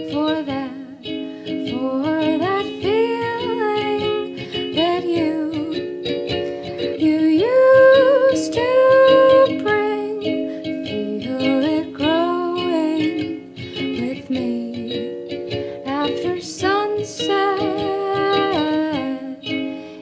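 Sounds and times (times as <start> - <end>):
woman singing long sliding notes: 0.0 - 5.9, 7.0 - 15.1, 15.8 - 19.6
ukulele strumming: 0.0 - 20.0.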